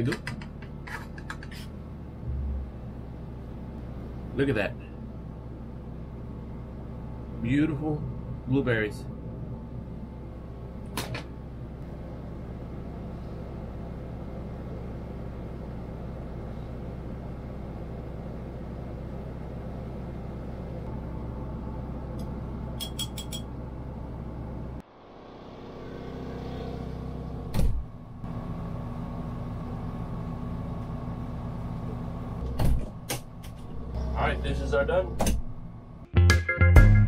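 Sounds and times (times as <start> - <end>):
generator humming: 1.7 - 37.0.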